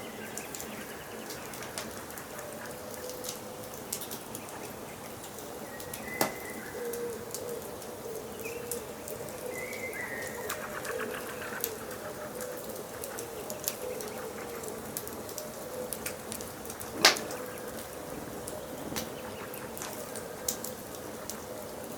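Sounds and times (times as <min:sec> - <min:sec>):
forest birds calling: 0:00.0 - 0:21.9
low bird cooing: 0:00.0 - 0:21.9
wood fire crackling and popping: 0:00.3 - 0:21.9.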